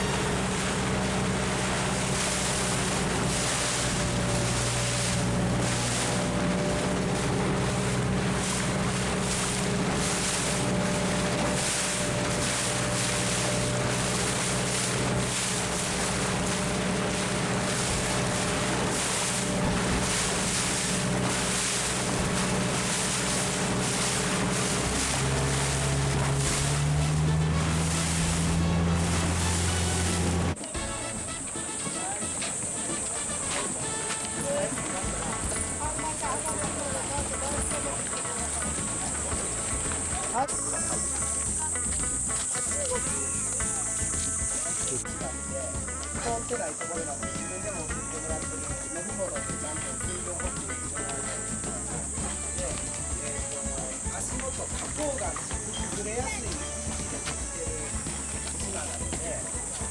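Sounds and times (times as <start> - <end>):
boat engine running: 0.0 - 59.9
wind and water rushing: 0.0 - 59.9.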